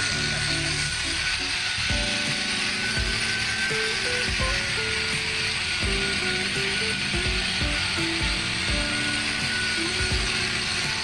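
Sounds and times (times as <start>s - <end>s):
melody over a beat: 0.0s - 11.0s
steady hiss: 0.0s - 11.0s.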